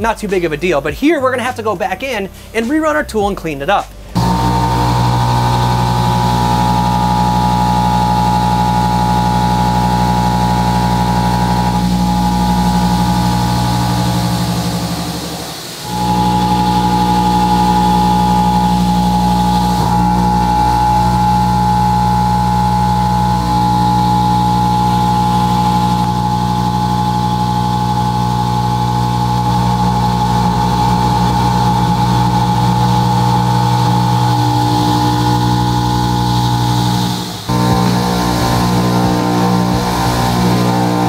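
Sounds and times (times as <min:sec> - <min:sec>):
milling cutter high whine: 0:04.2 - 0:41.0.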